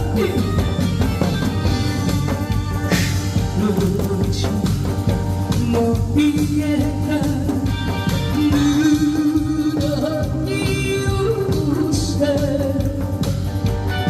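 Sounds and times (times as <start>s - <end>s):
accompanying music with drum beat: 0.0s - 14.0s
person singing: 0.0s - 14.0s.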